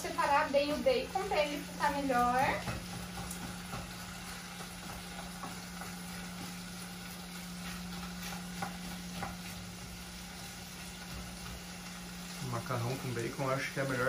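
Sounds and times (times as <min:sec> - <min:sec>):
bacon sizzling in a pan: 0:00.0 - 0:14.0
utensil stirring in a pan: 0:00.0 - 0:14.0.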